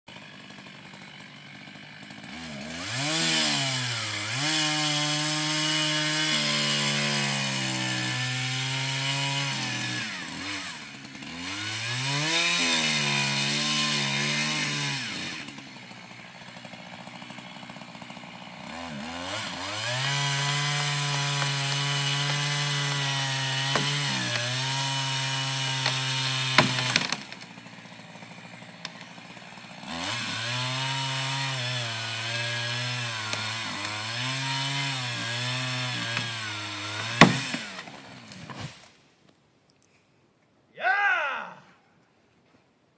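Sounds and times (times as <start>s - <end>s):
chainsaw cutting wood: 0.1s - 39.0s.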